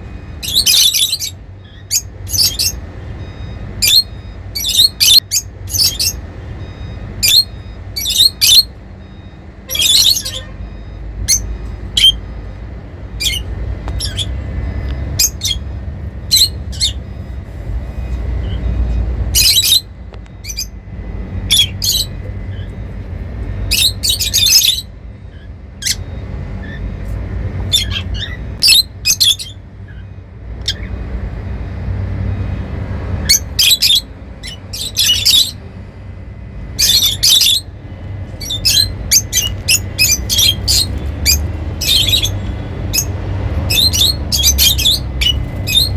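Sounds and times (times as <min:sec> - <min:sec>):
lovebirds chirping and squawking: 0:00.4 - 0:03.0, 0:03.6 - 0:06.3, 0:07.2 - 0:08.8, 0:09.7 - 0:10.5, 0:11.3 - 0:12.3, 0:13.1 - 0:17.4, 0:18.0 - 0:31.0, 0:33.1 - 0:35.7, 0:36.7 - 0:45.9.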